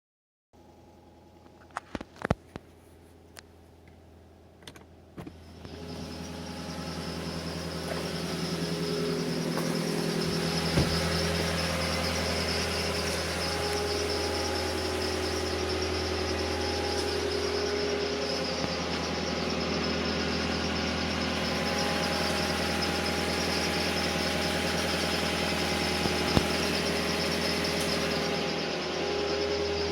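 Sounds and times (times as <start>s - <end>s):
car engine hum: 3.1s - 29.9s
high-pitched belt whistle: 5.4s - 29.9s.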